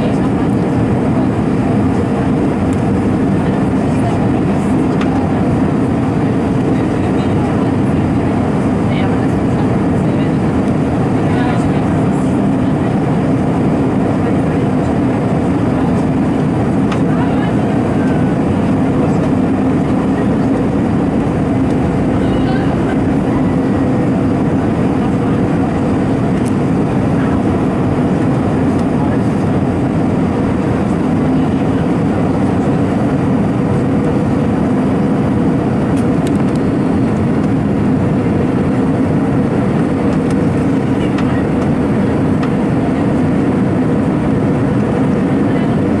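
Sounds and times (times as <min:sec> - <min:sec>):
jet engines humming: 0:00.0 - 0:46.0
rushing airflow: 0:00.0 - 0:46.0.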